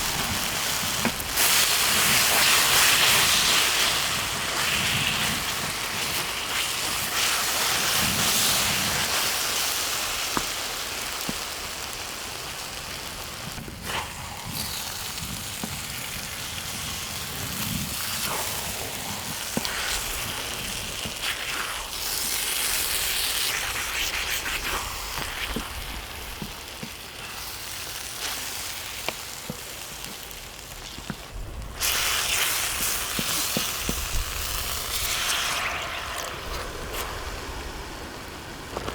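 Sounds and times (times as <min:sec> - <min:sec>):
chicken sizzling in a pan: 0:00.0 - 0:38.9.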